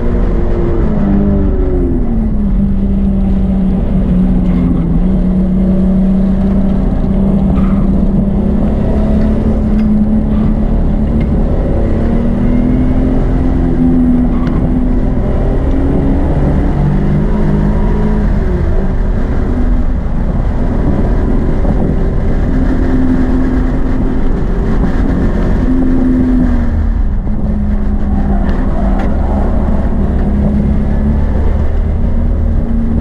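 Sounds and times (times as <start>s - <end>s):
car engine under load: 0.0s - 33.0s
road and wind noise: 0.0s - 33.0s.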